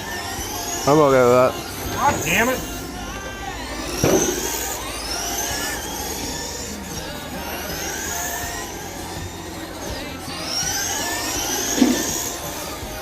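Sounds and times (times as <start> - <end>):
rc car motors whining: 0.0 - 13.0.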